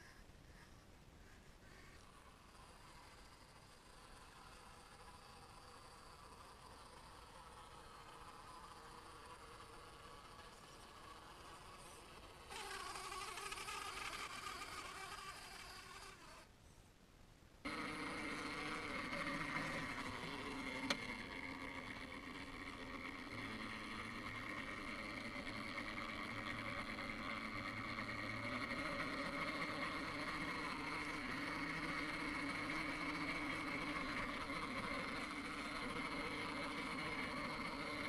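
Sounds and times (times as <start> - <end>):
rc car motor whining: 1.6 - 16.5, 17.6 - 38.0.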